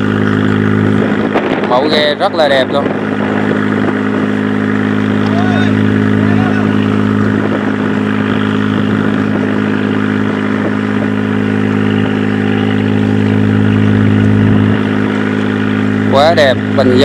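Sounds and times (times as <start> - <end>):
diesel boat engine droning: 0.0 - 17.0.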